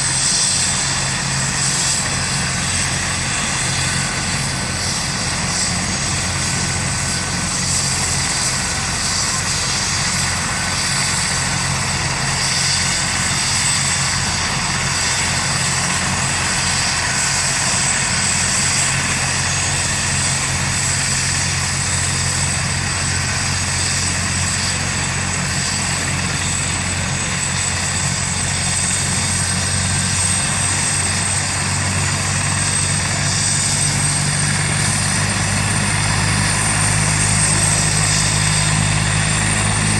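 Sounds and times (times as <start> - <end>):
helicopter rotor thrum: 0.0 - 39.9
turbine whine: 0.0 - 39.9.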